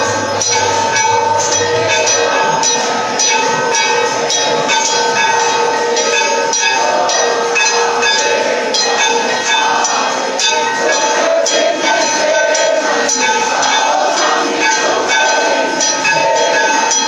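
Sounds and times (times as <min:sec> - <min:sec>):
clanging metal percussion: 0:00.0 - 0:17.0
temple bells ringing: 0:00.0 - 0:17.0.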